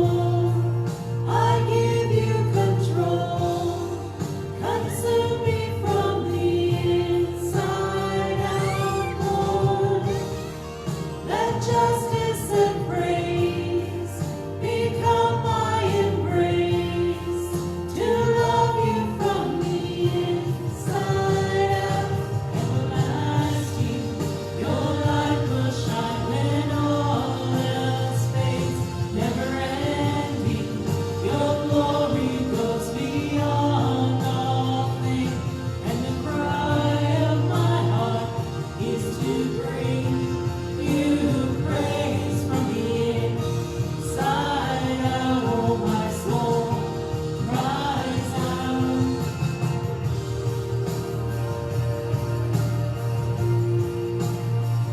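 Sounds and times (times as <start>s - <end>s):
group singing worship song: 0.0s - 54.9s
instrumental accompaniment: 0.0s - 54.9s.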